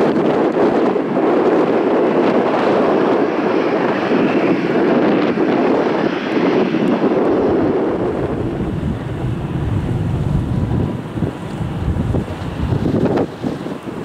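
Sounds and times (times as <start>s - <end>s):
jet engines running: 0.0s - 14.0s
wind buffeting microphone: 0.0s - 14.0s.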